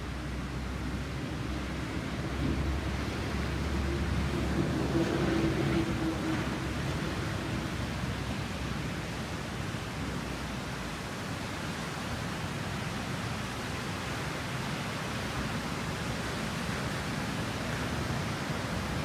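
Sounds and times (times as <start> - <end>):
surf washing up beach: 0.0 - 19.0.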